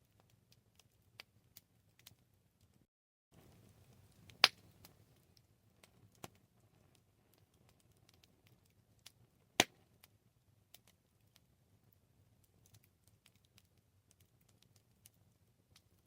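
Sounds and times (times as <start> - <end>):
campfire crackling and snapping: 0.0 - 16.0.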